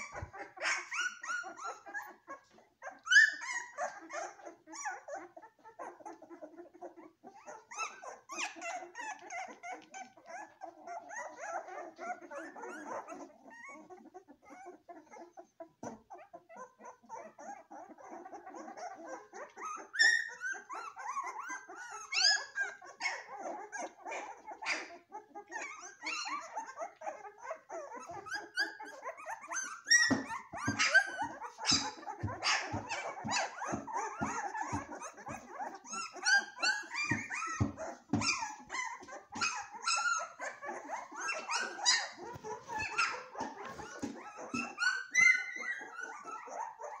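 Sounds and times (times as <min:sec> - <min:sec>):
puppies yipping and whining: 0:00.0 - 0:47.0.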